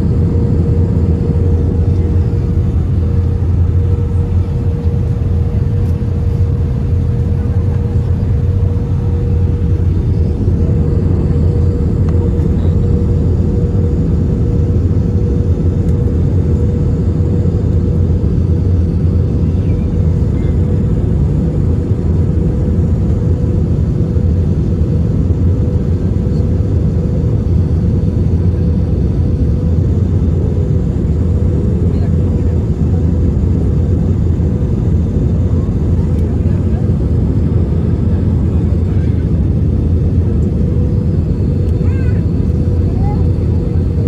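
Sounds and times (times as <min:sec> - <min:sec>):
aircraft cabin engine rumble: 0:00.0 - 0:44.0.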